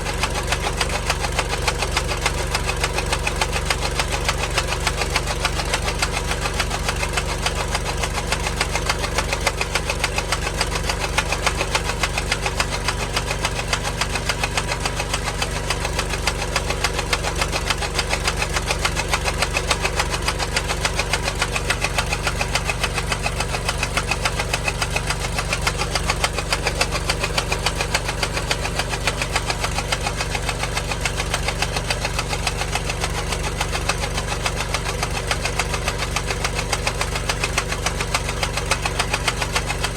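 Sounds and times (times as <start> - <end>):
engine running with rapid knock: 0.0 - 39.9.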